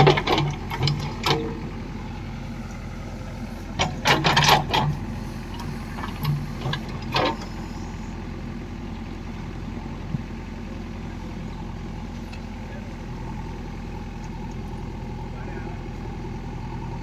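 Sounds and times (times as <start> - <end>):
farm machine engine running: 0.0 - 17.0.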